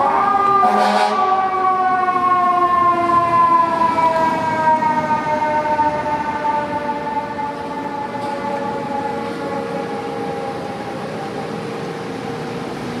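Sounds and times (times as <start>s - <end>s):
fire engine siren: 0.0s - 13.0s.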